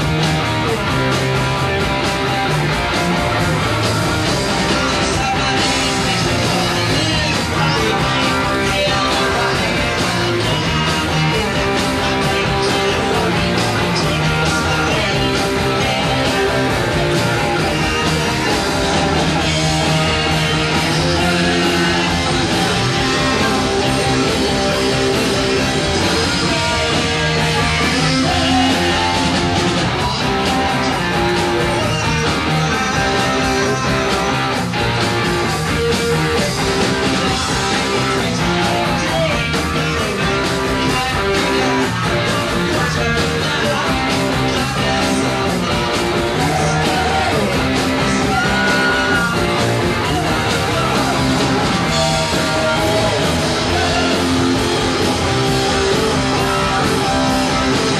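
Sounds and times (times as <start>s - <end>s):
punk rock band playing live: 0.0s - 57.9s.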